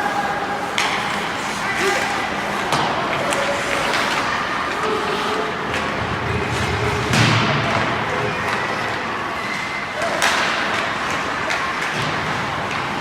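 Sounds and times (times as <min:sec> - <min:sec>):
rink crowd din: 0:00.0 - 0:13.0
hockey sticks and puck clacking: 0:00.6 - 0:13.0.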